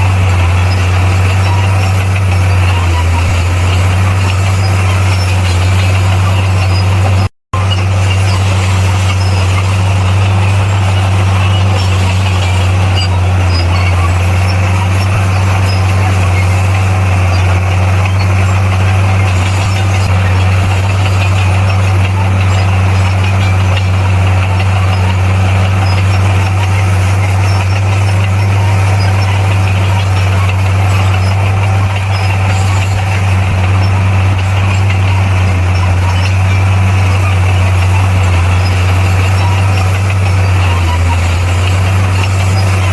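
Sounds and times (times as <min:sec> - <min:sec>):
bulldozer diesel engine droning: 0:00.0 - 0:42.9.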